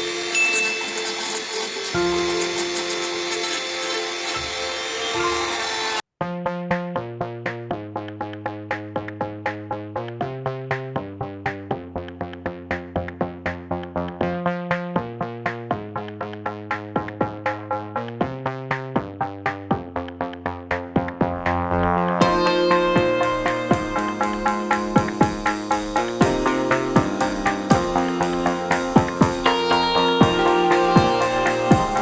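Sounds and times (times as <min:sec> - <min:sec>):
electronic music with synth notes: 0:06.2 - 0:32.0.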